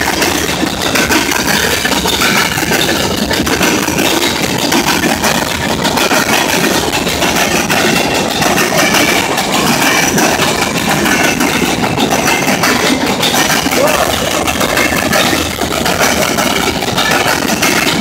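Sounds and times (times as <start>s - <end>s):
steel wheels on rail: 0.0s - 18.0s
wheels clicking and clanking: 0.0s - 18.0s.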